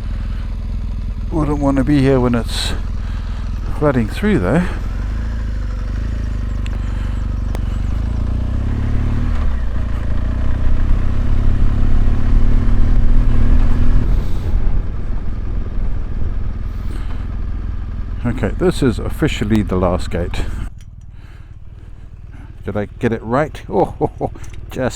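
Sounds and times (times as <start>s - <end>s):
sharp ticks: 0.0s - 13.6s, 14.5s - 24.9s
motorcycle engine riding on gravel: 0.0s - 24.9s.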